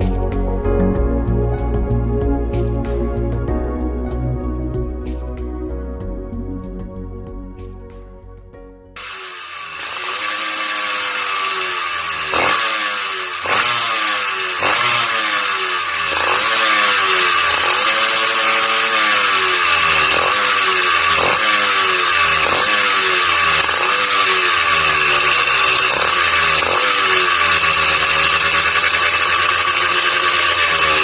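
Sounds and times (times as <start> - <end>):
two-stroke motorcycle engine revving: 0.0 - 3.0, 9.0 - 31.0.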